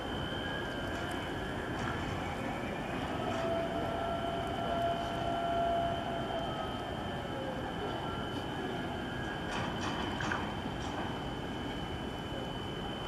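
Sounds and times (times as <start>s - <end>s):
waterfront background noise: 0.0s - 13.0s.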